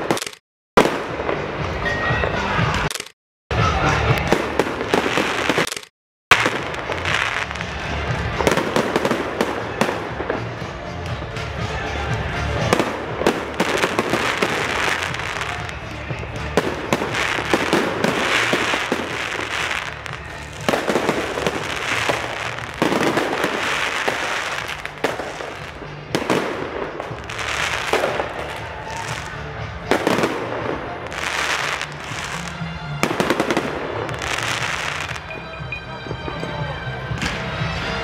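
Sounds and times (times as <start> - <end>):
fireworks bangs and crackles: 0.0 - 2.9, 3.6 - 35.4, 36.1 - 38.0.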